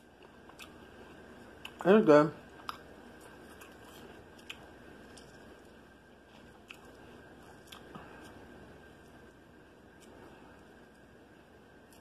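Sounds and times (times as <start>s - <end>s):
person chewing crisp food: 0.0s - 11.1s, 11.7s - 12.0s.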